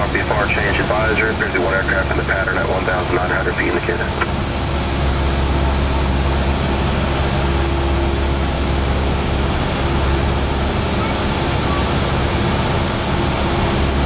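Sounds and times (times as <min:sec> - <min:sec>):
aircraft engine and propeller droning: 0:00.0 - 0:14.0.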